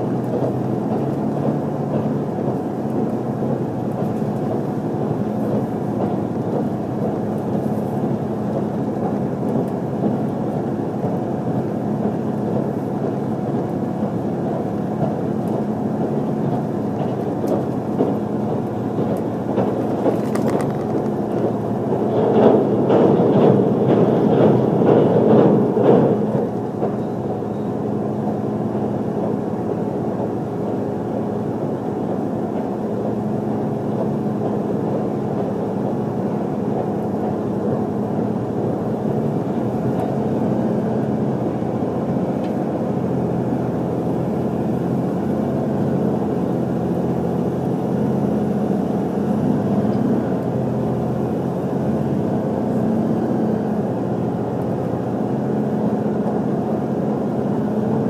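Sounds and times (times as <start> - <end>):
engine and traction drive hum: 0.0 - 58.0
wheels rumbling on rail: 0.0 - 58.0.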